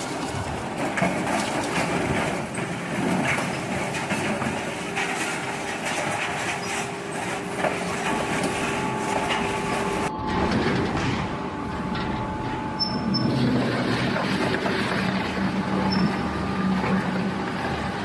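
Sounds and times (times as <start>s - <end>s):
metal shredder grinding metal: 0.0s - 18.0s.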